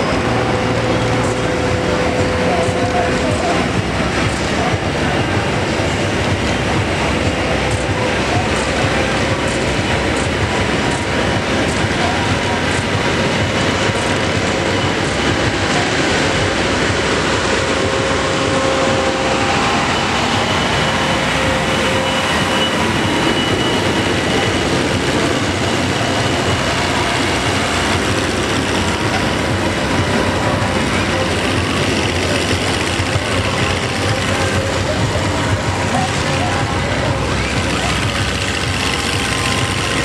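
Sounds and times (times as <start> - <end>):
tractor diesel engines rumbling: 0.0 - 40.0.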